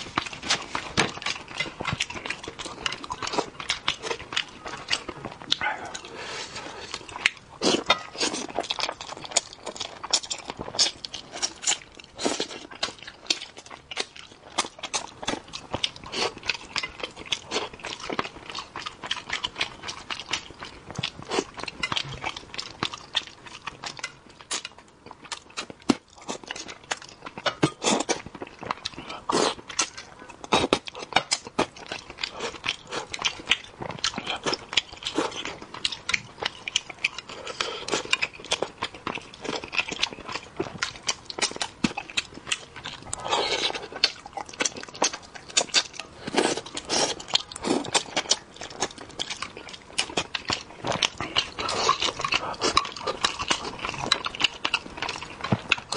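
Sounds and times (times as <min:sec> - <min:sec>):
close chewing with mouth clicks: 0:00.0 - 0:55.9.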